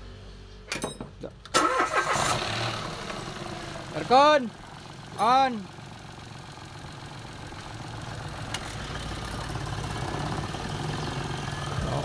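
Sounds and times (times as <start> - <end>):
car engine idling: 1.5 - 12.0.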